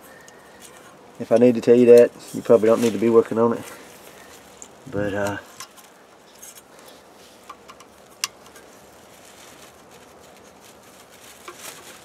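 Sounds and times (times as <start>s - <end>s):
light wind hiss: 0.0s - 12.0s.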